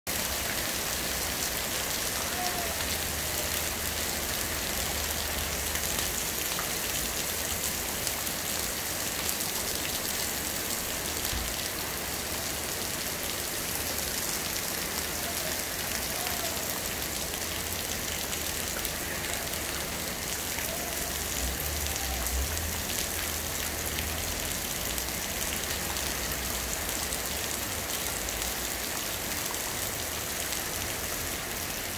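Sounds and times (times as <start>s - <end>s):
heavy rain on wet pavement: 0.1s - 31.9s.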